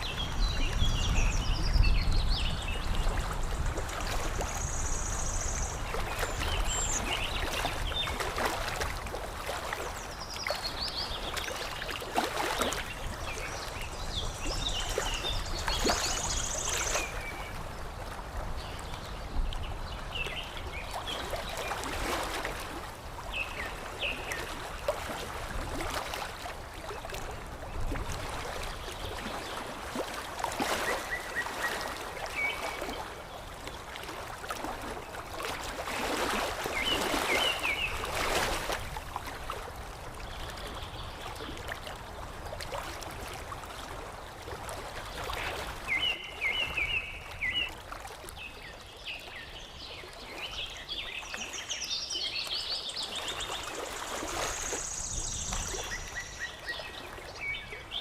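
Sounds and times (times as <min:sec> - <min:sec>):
water lapping and flowing: 0:00.0 - 0:58.0.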